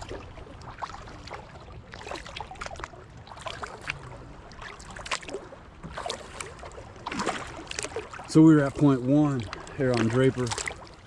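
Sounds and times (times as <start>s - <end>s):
paddle splashing water: 0.0s - 11.0s.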